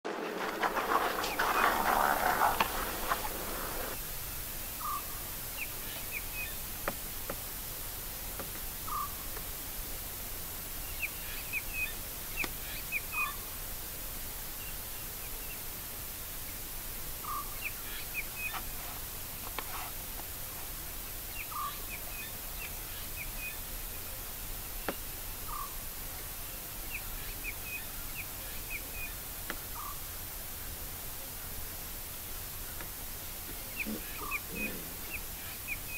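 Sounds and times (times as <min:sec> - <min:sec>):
background hiss: 0:00.0 - 0:35.9.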